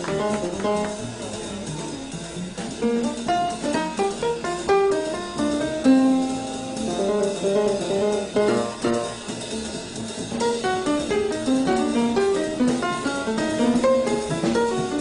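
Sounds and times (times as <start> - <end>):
up-tempo bebop jazz: 0.0 - 15.0.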